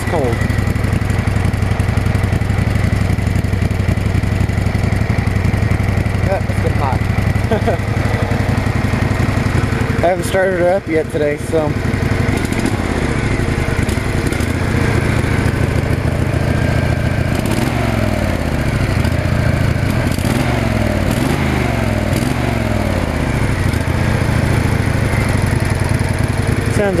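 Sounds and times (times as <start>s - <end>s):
riding lawn mower engine running: 0.0s - 27.0s.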